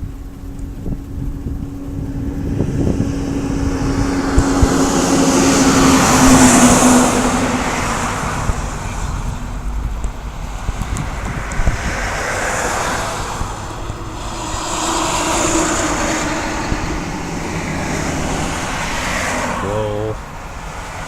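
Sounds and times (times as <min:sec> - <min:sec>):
motor vehicle passing by: 0:00.0 - 0:21.0
steady low hum: 0:00.0 - 0:21.0.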